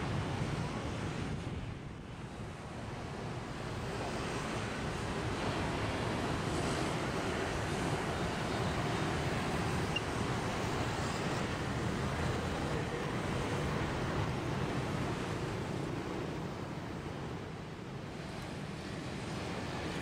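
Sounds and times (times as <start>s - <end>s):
distant traffic: 2.1s - 20.0s
river water washing: 2.9s - 20.0s.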